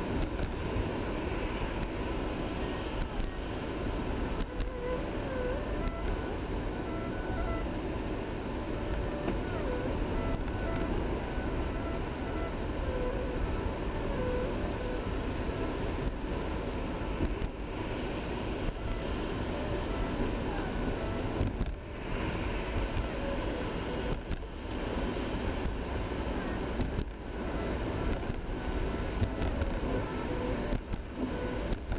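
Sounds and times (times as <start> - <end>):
car engine hum: 0.0 - 31.9.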